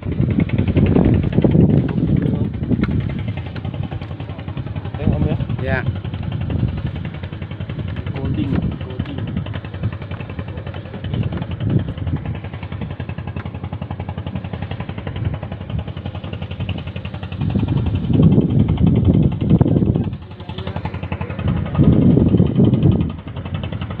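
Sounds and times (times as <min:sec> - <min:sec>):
small boat engine chugging: 0:00.0 - 0:24.0.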